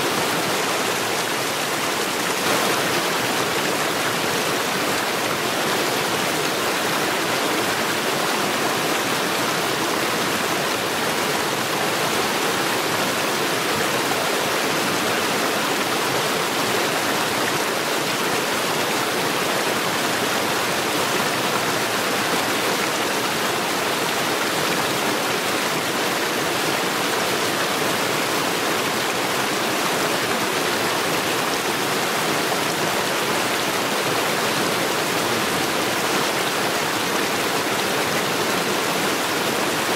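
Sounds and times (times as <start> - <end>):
stream water rushing over stones: 0.0 - 39.9.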